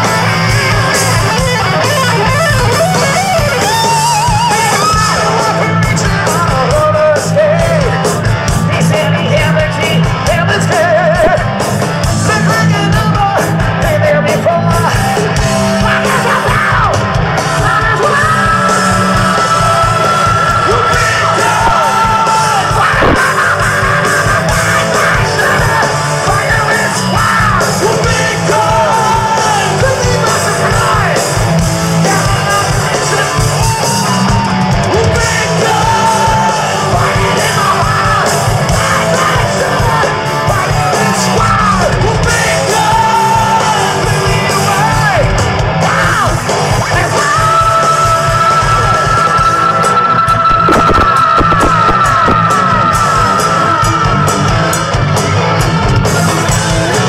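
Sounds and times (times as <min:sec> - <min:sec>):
hard rock band playing: 0:00.0 - 0:57.0
man singing shouted vocals: 0:03.0 - 0:11.6, 0:12.2 - 0:31.4, 0:32.0 - 0:54.3.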